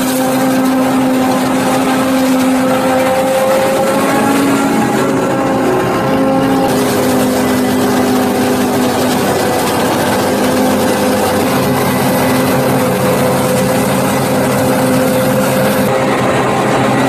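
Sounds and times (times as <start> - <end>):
chopped crop rushing from spout: 0.0 - 15.9
harvester engine drone: 0.0 - 17.0.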